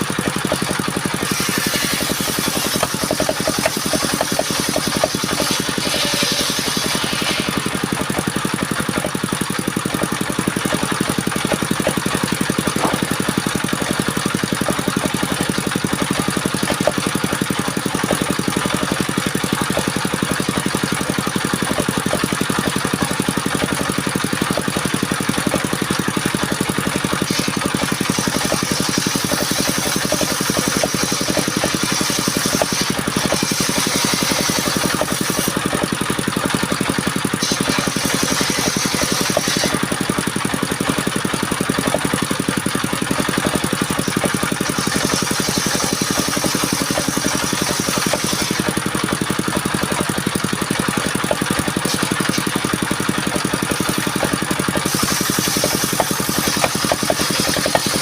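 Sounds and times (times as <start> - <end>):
circular saw engine running: 0.0 - 58.0
saw blade hiss cutting wood: 0.0 - 58.0.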